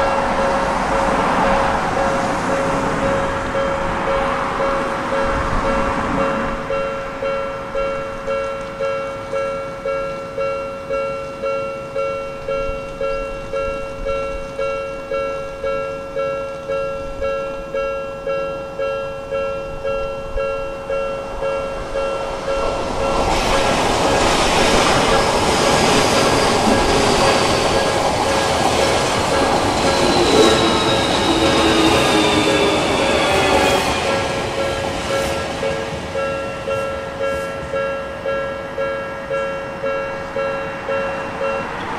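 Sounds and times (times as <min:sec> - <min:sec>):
train rumble and wheel noise: 0:00.0 - 0:41.9
level-crossing electronic bell: 0:02.6 - 0:24.3, 0:25.0 - 0:41.9.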